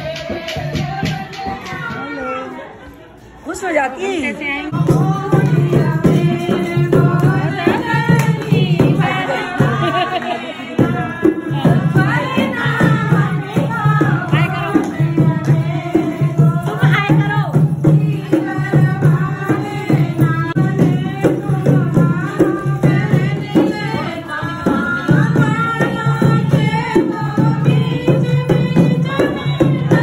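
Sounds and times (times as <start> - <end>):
women singing folk song: 0.0 - 2.7, 4.7 - 30.0
dholak drum beat: 4.7 - 30.0.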